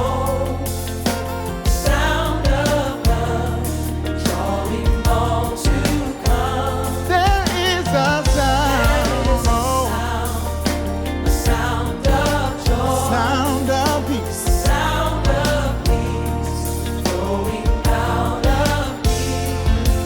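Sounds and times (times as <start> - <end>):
band with heavy bass: 0.0 - 20.0.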